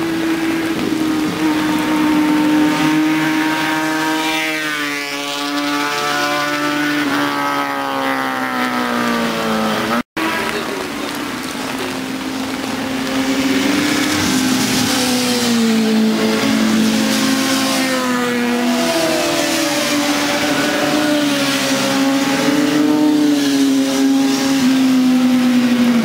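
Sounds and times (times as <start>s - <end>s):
racing motorcycles passing at speed: 0.0s - 26.0s.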